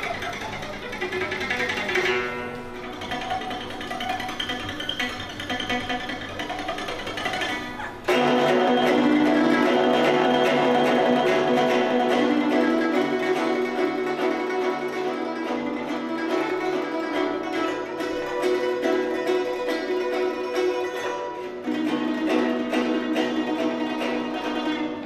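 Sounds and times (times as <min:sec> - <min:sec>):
zither plucked rapidly: 0:00.0 - 0:25.0.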